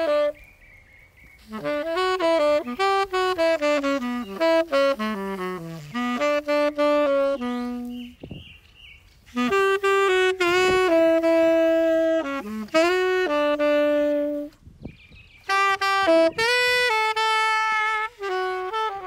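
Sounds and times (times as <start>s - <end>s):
saxophone slow melody: 0.0s - 0.7s, 1.3s - 8.4s, 9.0s - 19.0s.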